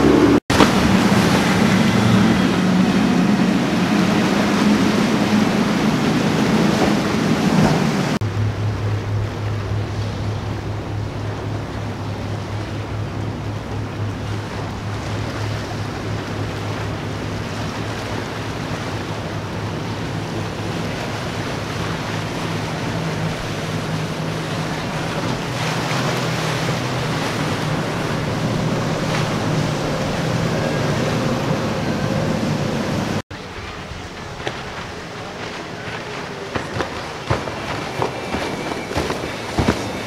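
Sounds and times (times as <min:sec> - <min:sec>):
outboard engines droning: 0:00.0 - 0:40.0
rushing wake and waves: 0:00.0 - 0:40.0.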